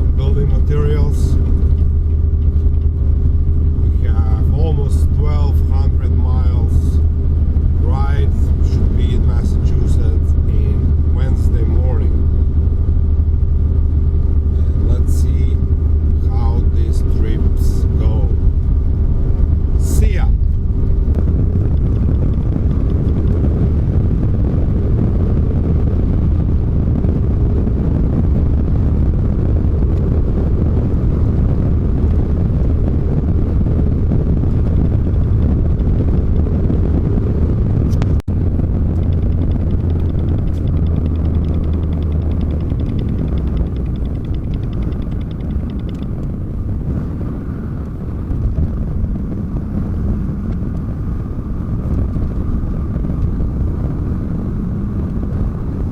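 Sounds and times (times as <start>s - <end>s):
road rumble: 0.0s - 55.9s
truck engine: 0.0s - 55.9s.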